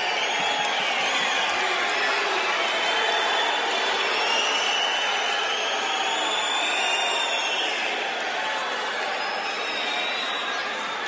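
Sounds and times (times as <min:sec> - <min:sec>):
stadium crowd singing and cheering: 0:00.0 - 0:11.0.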